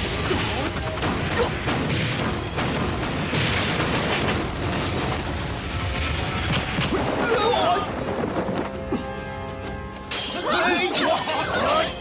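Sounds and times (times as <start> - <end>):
dramatic background music: 0.0 - 12.0.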